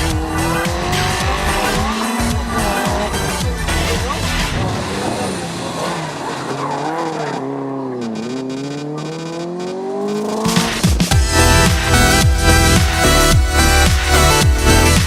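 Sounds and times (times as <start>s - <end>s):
electronic dance music: 0.0s - 5.6s, 8.1s - 15.0s
rally car engine revving: 0.0s - 15.0s.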